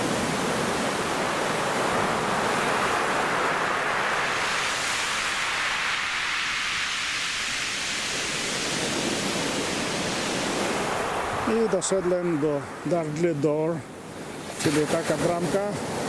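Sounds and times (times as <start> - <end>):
rough sea surf rushing: 0.0 - 16.0.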